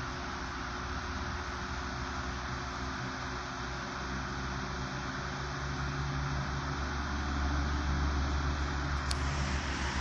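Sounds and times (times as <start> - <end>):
table fan running: 0.0 - 10.0.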